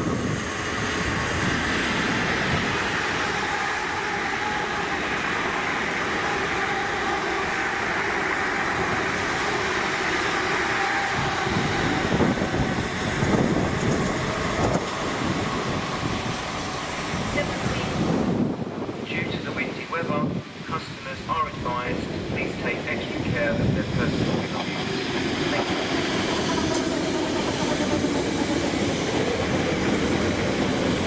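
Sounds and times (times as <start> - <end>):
electric train passing: 0.0 - 19.5, 21.1 - 31.0.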